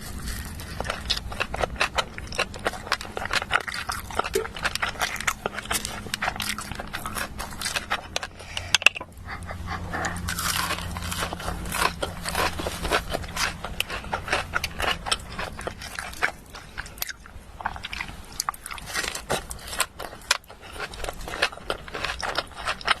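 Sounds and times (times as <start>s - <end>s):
crunching and chewing food: 0.0s - 23.0s.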